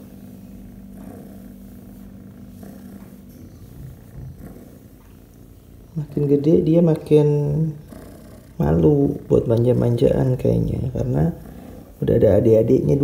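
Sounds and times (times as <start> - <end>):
kitten purring: 0.0 - 13.0.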